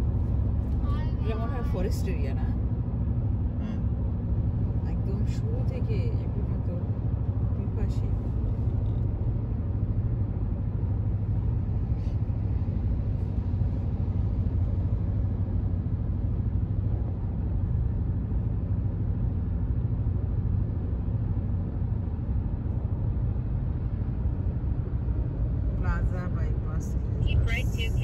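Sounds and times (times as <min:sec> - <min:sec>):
car driving on road: 0:00.0 - 0:28.0.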